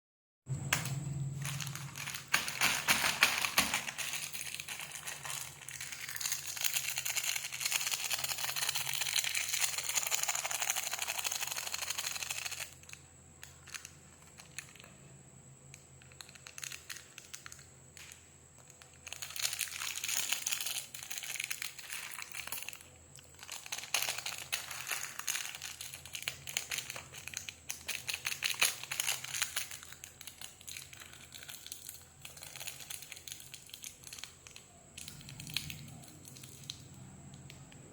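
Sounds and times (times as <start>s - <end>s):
candy wrappers crinkling: 0.8s - 15.0s, 16.0s - 37.6s.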